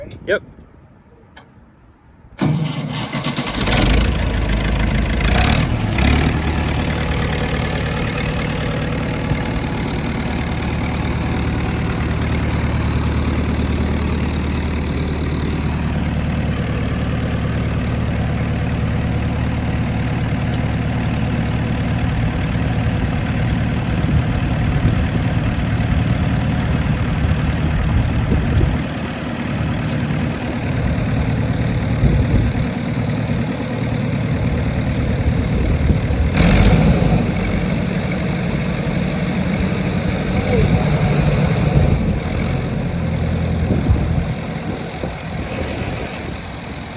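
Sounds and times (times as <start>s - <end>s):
engine sharp bursts: 2.4s - 28.4s, 32.9s - 46.9s
tractor engine idling: 2.4s - 46.9s.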